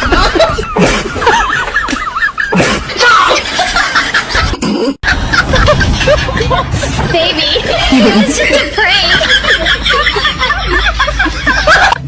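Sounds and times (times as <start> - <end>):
people laughing and giggling: 0.0 - 12.0.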